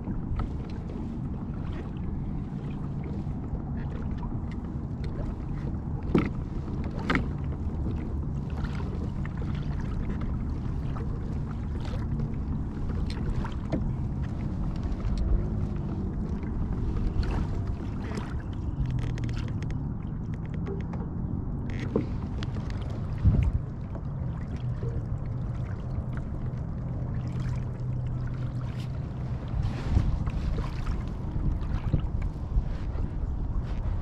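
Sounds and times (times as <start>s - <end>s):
water along the hull: 0.0s - 34.0s.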